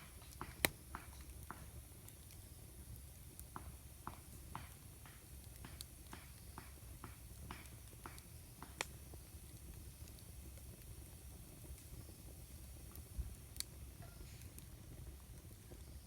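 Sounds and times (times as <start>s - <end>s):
campfire crackling: 0.0s - 16.0s
fire pops: 0.0s - 16.0s.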